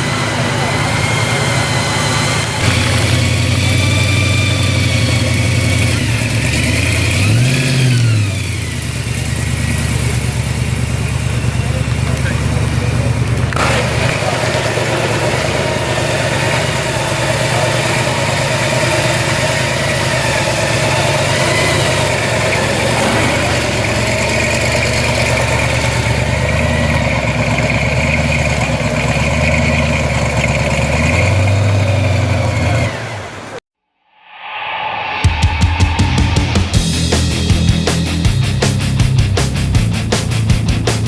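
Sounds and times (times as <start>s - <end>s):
car engine idling: 0.0s - 33.6s.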